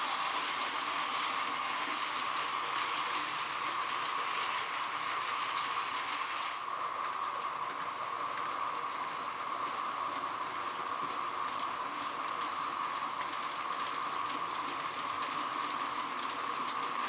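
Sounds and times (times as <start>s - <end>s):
model trains humming on track: 0.0s - 17.0s.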